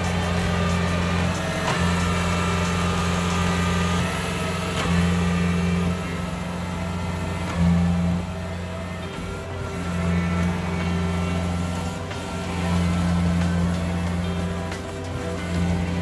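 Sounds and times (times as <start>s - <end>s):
diesel engine droning under load: 0.0s - 16.0s.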